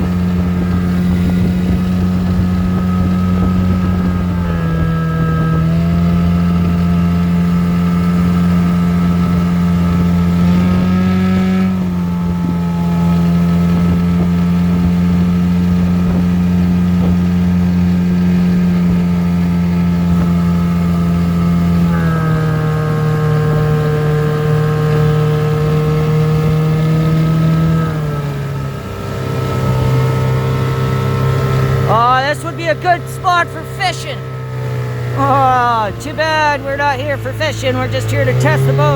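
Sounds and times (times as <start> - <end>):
outboard motor droning: 0.0 - 38.9.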